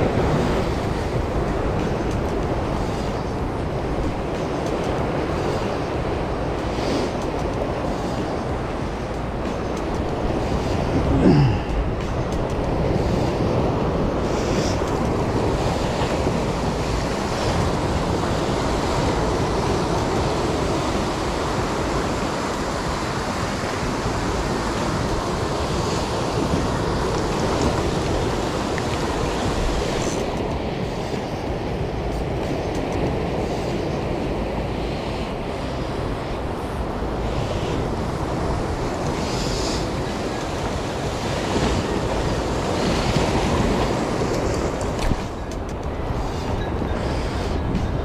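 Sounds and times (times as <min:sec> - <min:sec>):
ocean surf washing over rocks: 0:00.0 - 0:48.0.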